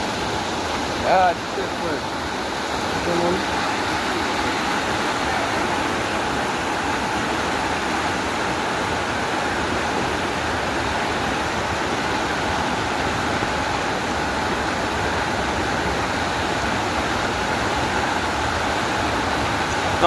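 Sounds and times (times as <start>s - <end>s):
floodwater rushing across road: 0.0s - 20.0s.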